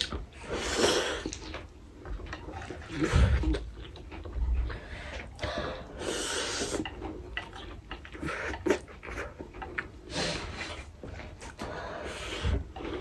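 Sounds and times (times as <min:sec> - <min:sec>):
slurping and chewing noodles: 0:00.0 - 0:13.0.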